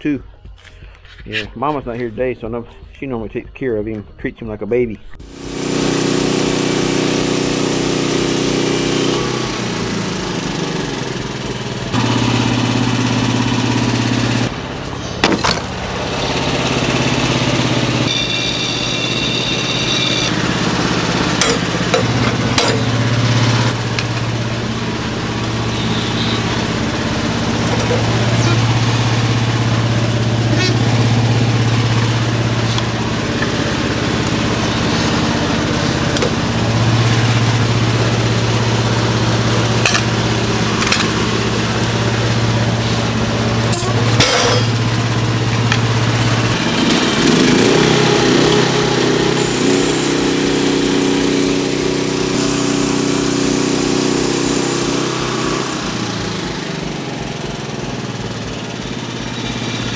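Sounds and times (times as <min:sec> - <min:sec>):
small engine running: 0:05.2 - 0:59.9.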